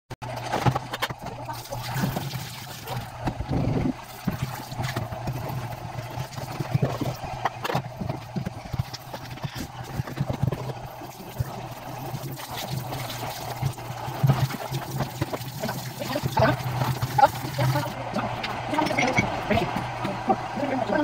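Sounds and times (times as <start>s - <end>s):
steady low hum: 0.4s - 21.0s.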